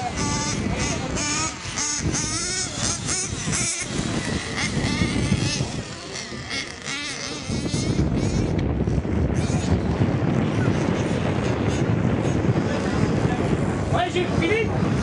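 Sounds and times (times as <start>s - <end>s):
model motorcycle motors revving: 0.0s - 15.0s.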